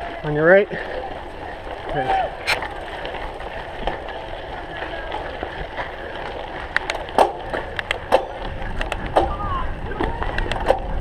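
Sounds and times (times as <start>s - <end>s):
bike rattling over bumps: 0.0s - 11.0s
bike tyre and wind noise: 0.0s - 11.0s.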